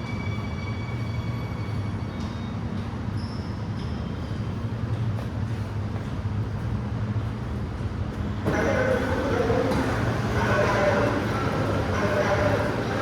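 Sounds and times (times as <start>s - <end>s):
train rumbling into station: 0.0s - 13.0s.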